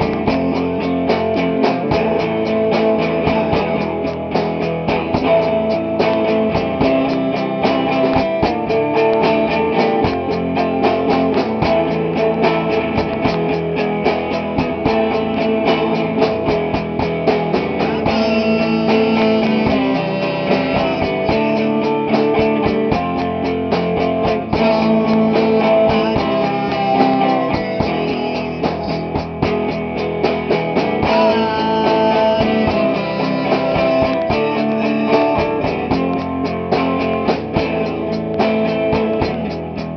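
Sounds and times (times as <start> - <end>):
drum kit fast beat: 0.0 - 39.9
strummed electric guitars: 0.0 - 39.9.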